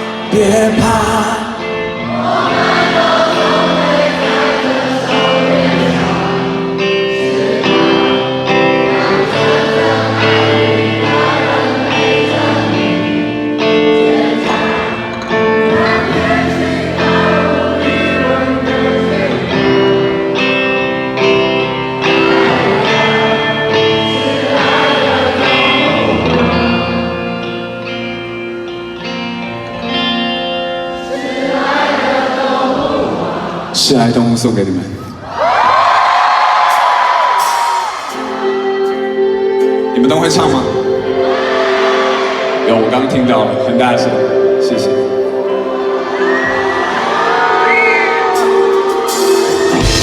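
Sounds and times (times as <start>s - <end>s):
several voices singing together: 0.0s - 27.9s, 30.8s - 34.0s, 36.7s - 50.0s
live rock band music: 0.0s - 33.0s, 35.9s - 50.0s.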